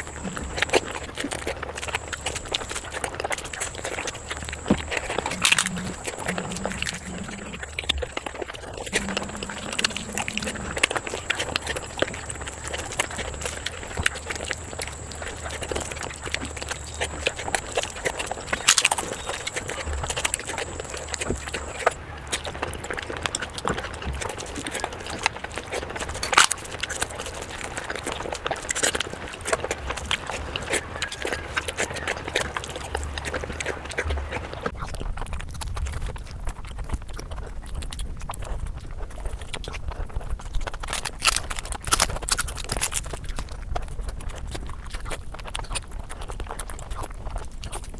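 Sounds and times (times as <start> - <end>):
wet chewing and lip smacking: 0.0 - 47.9.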